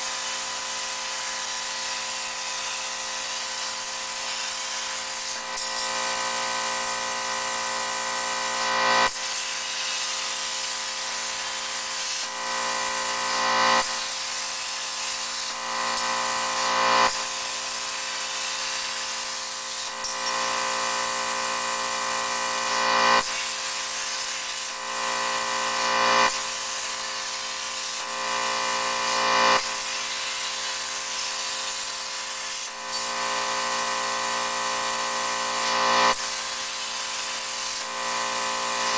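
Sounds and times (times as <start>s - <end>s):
machine whine: 0.0s - 38.9s
plasma arc hissing: 0.0s - 38.9s.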